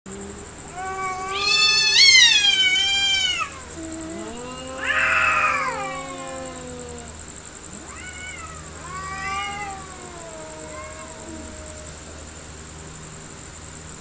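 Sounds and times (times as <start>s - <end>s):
cats yowling: 0.1s - 12.4s.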